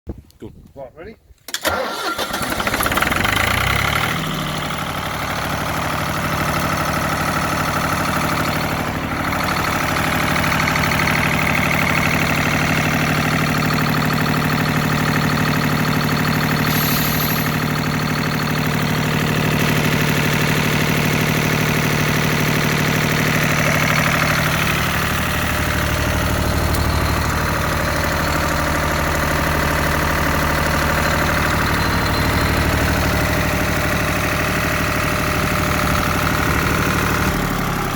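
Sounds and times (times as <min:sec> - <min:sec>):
diesel generator starting and running: 0:01.4 - 0:37.9.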